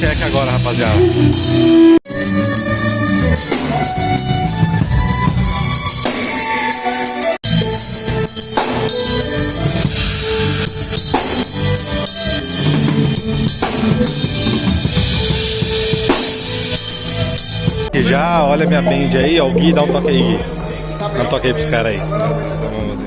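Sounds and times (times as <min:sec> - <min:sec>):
drum-led music: 0:00.0 - 0:21.0.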